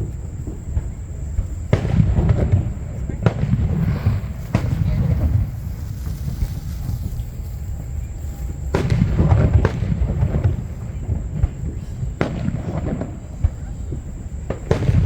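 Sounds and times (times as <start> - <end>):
fireworks bursting: 0.0 - 15.0
fireworks crackling: 0.0 - 15.0
low rumbling boom: 0.0 - 15.0.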